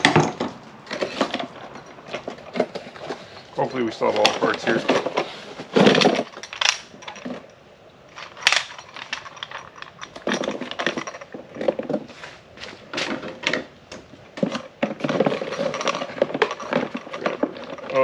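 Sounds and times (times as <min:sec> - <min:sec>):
small parts clinking and rattling: 0:00.0 - 0:12.1, 0:12.8 - 0:18.0.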